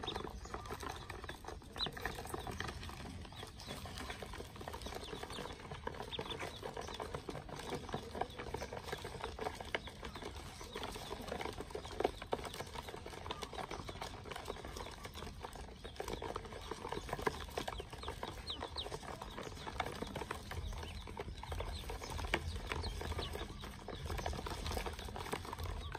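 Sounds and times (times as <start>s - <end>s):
ducklings peeping: 0.0s - 25.9s.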